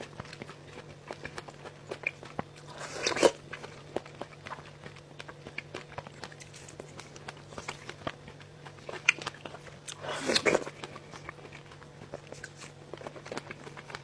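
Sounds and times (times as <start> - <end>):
crisp bites and chewing: 0.0 - 14.0.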